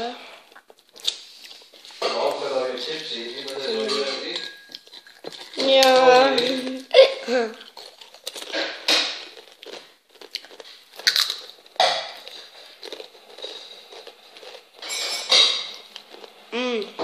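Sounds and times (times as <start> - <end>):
quiet chewing: 0.1 - 17.0
potato chips crunching: 0.5 - 17.0.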